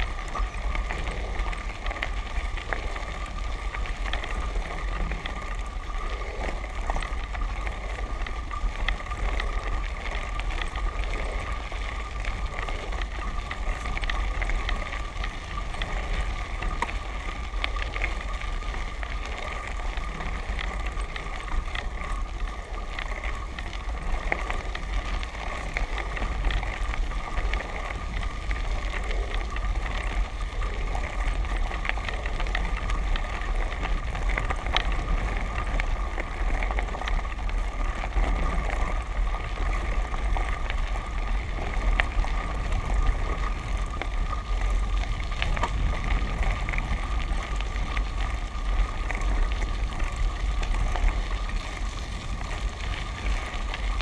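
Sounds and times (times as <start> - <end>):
low wind rumble: 0.0 - 54.0.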